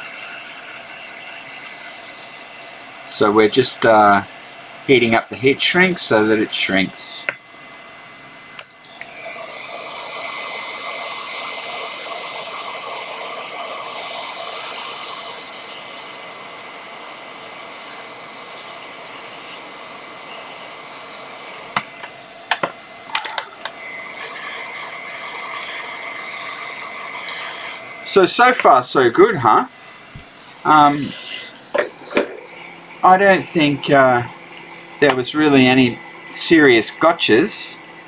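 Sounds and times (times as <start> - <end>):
hot air gun blowing: 0.0 - 4.6, 9.0 - 37.7.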